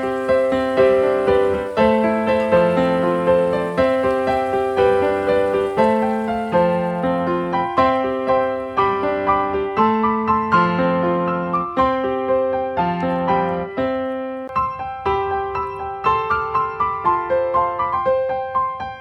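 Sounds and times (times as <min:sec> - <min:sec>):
gentle piano tune: 0:00.0 - 0:19.0.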